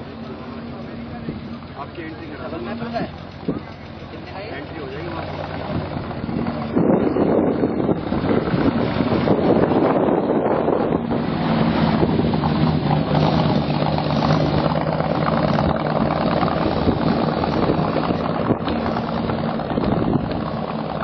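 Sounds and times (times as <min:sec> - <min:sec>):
car engine idling: 0:00.0 - 0:21.0
wind buffeting microphone: 0:00.0 - 0:21.0.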